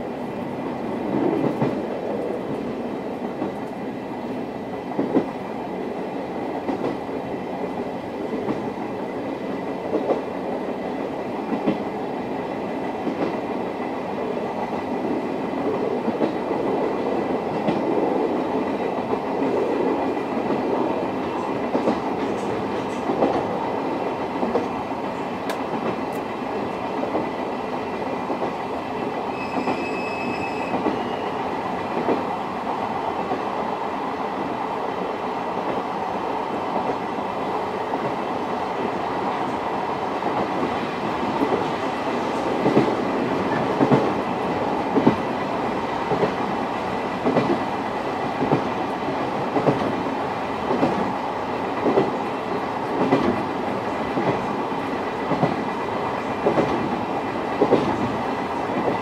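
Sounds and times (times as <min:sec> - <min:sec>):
rail joint clickety-clack: 0:00.0 - 0:59.0
train wheels rumbling on rail: 0:00.0 - 0:59.0.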